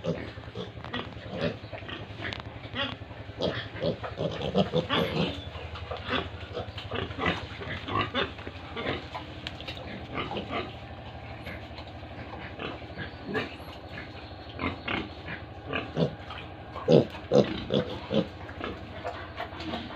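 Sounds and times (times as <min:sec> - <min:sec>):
pigs grunting: 0:00.0 - 0:19.9
steady low hum: 0:00.0 - 0:19.9.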